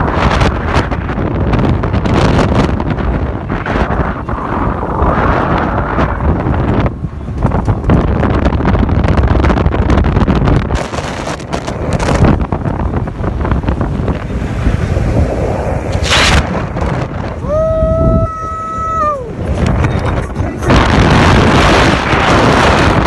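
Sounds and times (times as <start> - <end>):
vehicle rumbling on dirt track: 0.0 - 23.0
wind buffeting microphone: 0.0 - 23.0.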